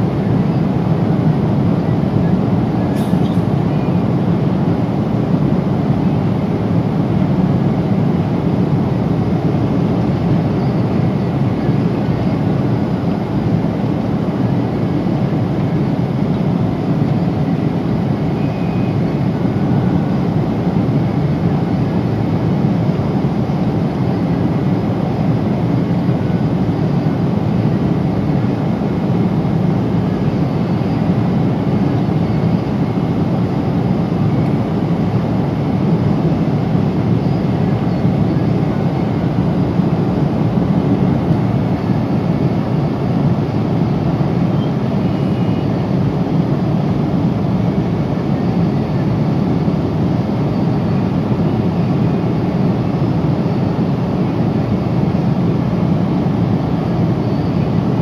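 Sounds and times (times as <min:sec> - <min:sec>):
airliner cabin roar: 0:00.0 - 0:58.0.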